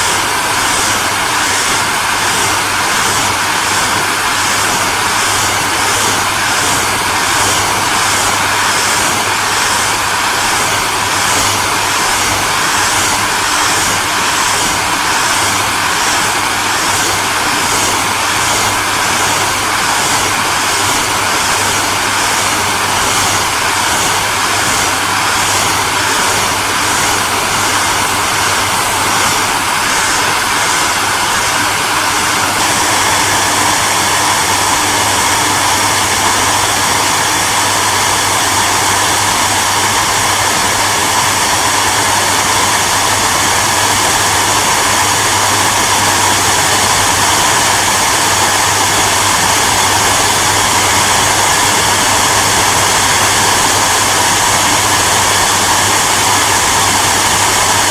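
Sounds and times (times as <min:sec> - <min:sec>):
hair dryer running: 0:00.0 - 0:57.9.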